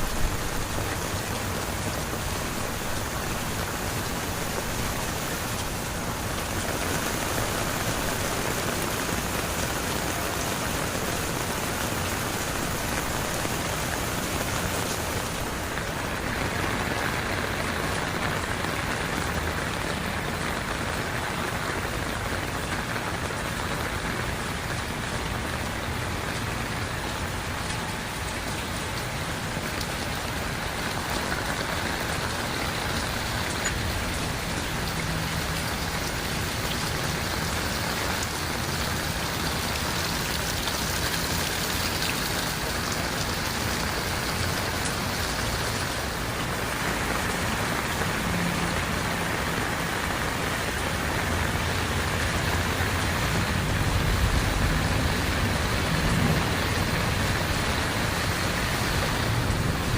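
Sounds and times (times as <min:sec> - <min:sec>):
heavy rain pattering: 0:00.0 - 0:59.9.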